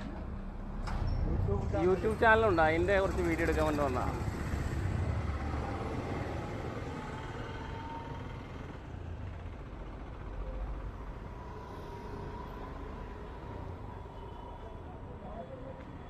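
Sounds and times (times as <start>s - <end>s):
passing cars and scooters: 0.0s - 16.0s.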